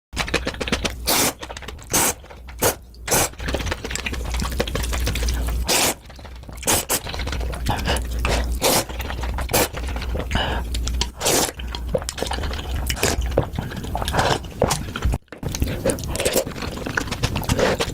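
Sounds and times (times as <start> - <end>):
wet chewing and slurping: 0.2 - 17.9.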